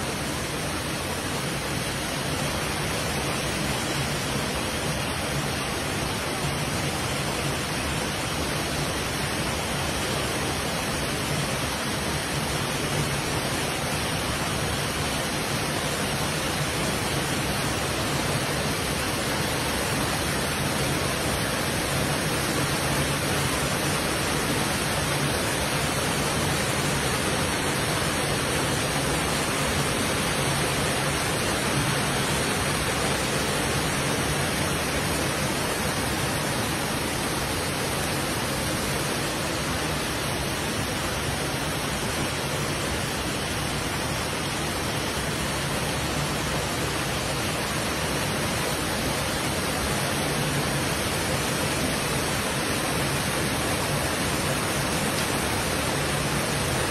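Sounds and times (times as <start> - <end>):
small waterfall rushing: 0.0 - 56.9.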